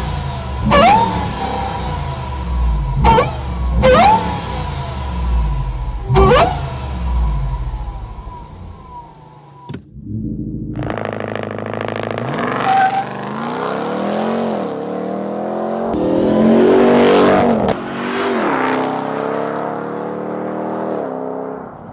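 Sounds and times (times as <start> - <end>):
truck engine accelerating hard: 0.0 - 21.9.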